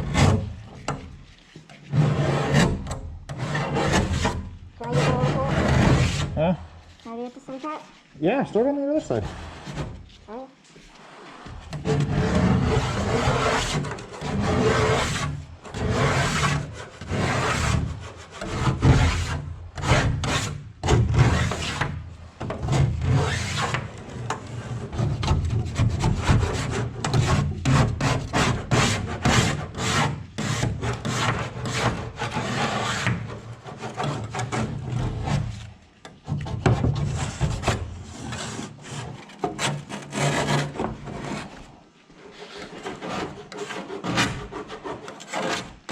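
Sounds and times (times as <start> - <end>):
paint scraping off hull: 0.0 - 8.1, 8.7 - 45.9.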